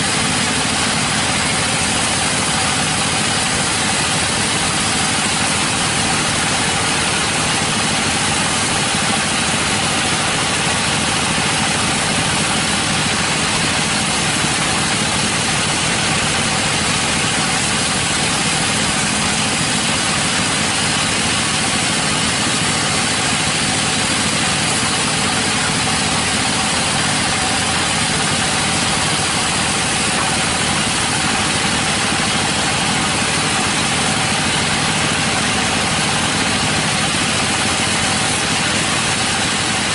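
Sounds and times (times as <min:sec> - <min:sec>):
sawmill engine running steadily: 0:00.0 - 0:39.9.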